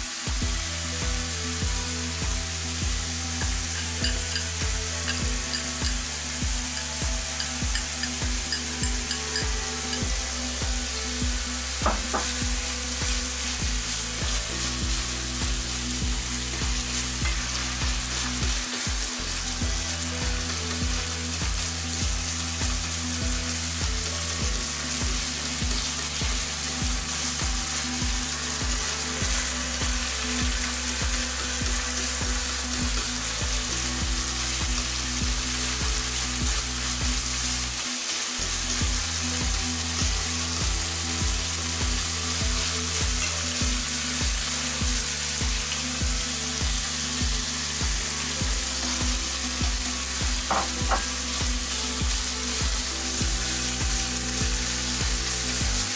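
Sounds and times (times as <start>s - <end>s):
meat sizzling in a frying pan: 0.0s - 55.9s.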